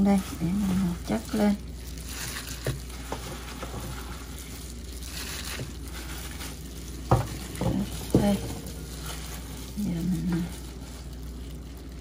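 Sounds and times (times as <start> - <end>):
hands handling wet meat: 0.0 - 12.0.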